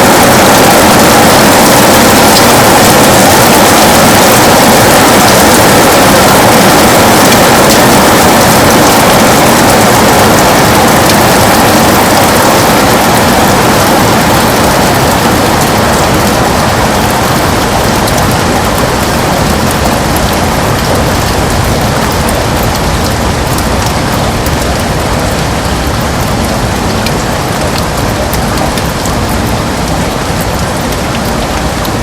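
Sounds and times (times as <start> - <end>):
heavy rain on a window: 0.0 - 32.0.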